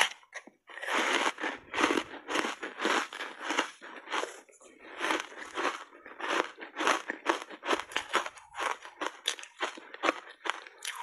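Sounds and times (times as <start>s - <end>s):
crisp crunching while chewing: 0.0s - 11.0s.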